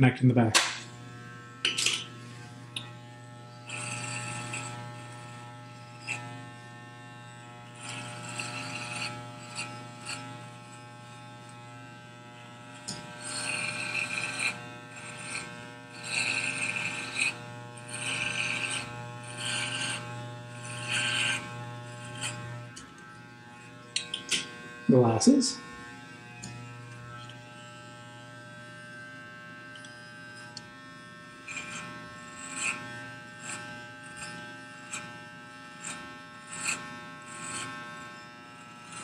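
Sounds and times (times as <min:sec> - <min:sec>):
electric hair clippers humming: 0:00.0 - 0:39.0
clippers rasping through hair: 0:00.5 - 0:39.0.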